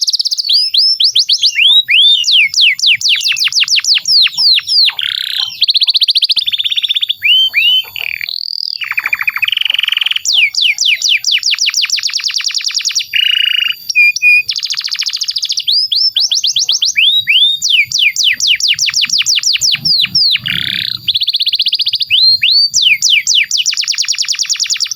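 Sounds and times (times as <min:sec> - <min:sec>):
canary singing: 0:00.0 - 0:24.9.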